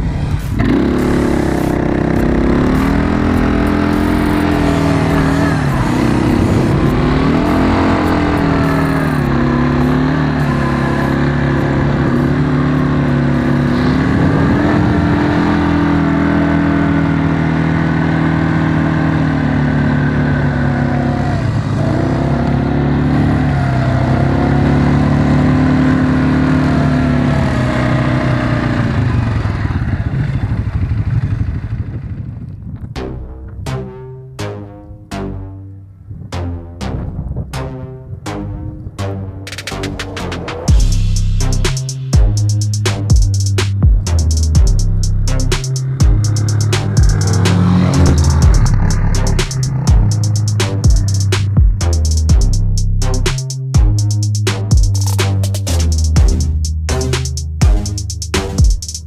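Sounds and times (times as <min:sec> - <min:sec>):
quad bike engine revving: 0:00.0 - 0:33.1, 0:39.5 - 0:58.8.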